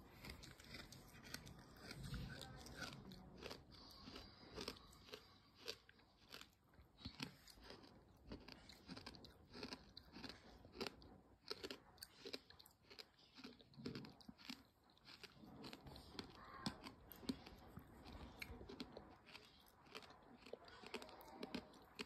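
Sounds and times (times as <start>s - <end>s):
sand crunching while chewed: 0.0s - 22.0s.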